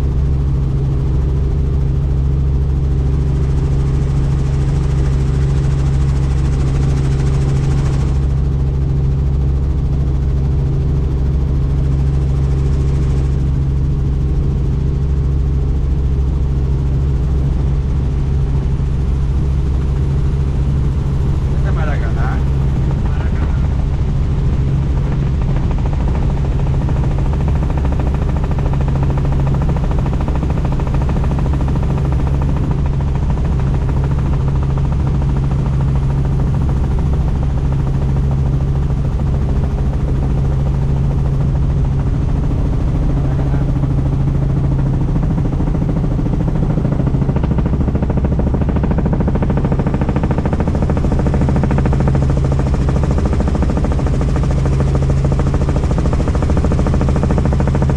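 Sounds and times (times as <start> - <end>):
helicopter engine hum: 0.0 - 57.9
helicopter rotor chop: 0.0 - 57.9.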